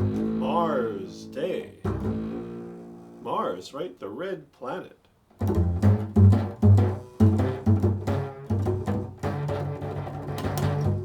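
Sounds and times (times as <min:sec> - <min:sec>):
plucked string instrument notes: 0:00.0 - 0:03.5, 0:05.4 - 0:11.0.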